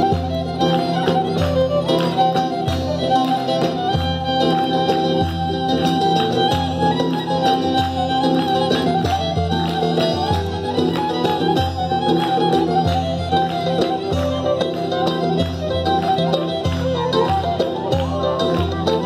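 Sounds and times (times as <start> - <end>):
violin melody: 0.0 - 19.0.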